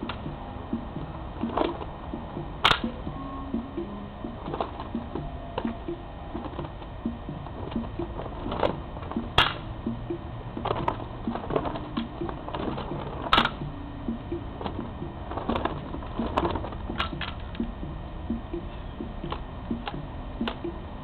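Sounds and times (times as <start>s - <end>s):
equipment slapping and knocking: 0.0s - 3.2s, 4.2s - 20.8s.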